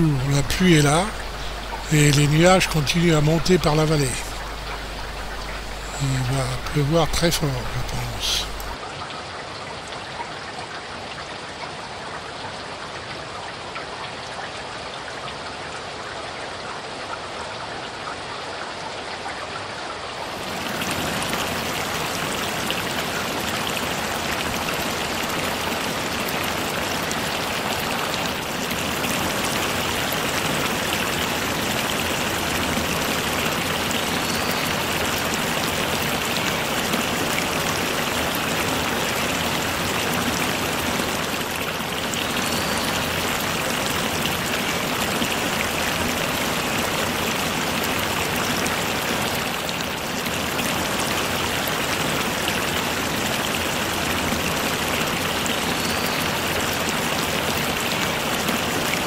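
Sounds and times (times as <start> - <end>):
rain falling on shrubs and gravel: 0.0 - 59.0.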